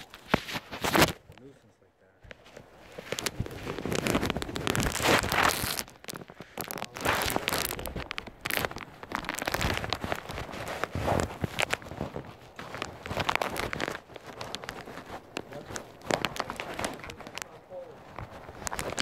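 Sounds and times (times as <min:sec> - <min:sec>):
microphone handling rustle: 0:00.0 - 0:19.0.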